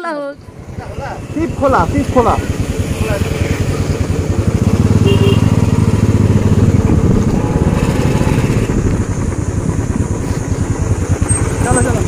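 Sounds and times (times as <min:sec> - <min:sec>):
motorcycle engine running: 0:00.2 - 0:12.0.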